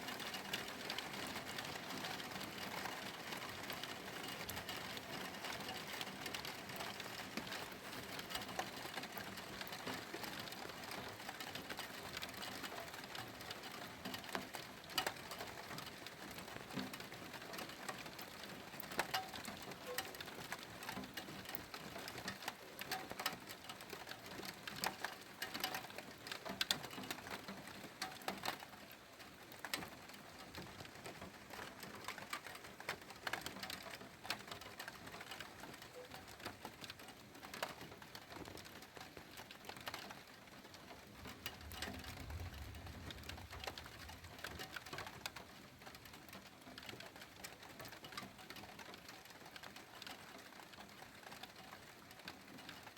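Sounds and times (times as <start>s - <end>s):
raindrops ticking on a surface: 0.0s - 52.9s
steady rain hissing: 0.0s - 52.9s.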